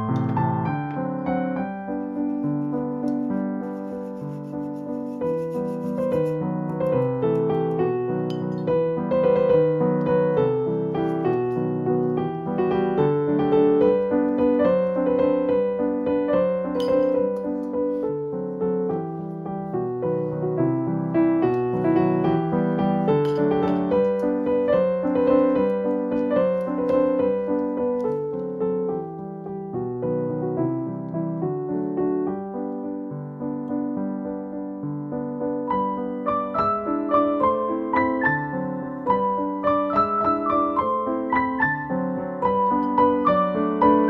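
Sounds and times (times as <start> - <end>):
instrumental music melody: 0.0 - 44.0.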